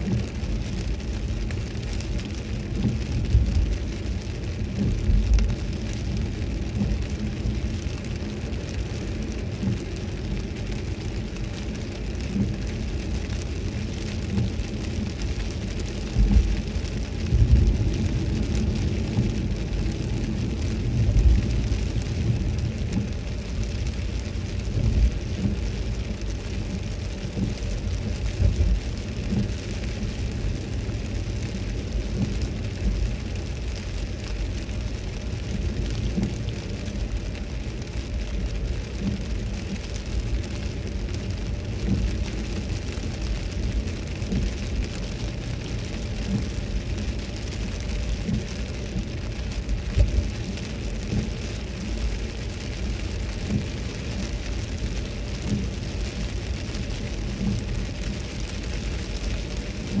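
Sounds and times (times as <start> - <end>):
low road rumble: 0.0 - 60.0
rain on a car: 0.0 - 60.0
tyres hissing on wet road: 0.0 - 60.0.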